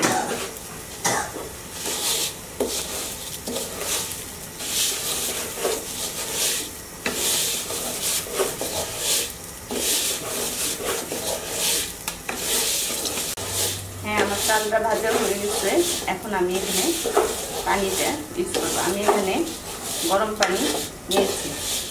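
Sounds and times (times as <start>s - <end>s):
spatula scraping frying rice: 0.0s - 21.9s.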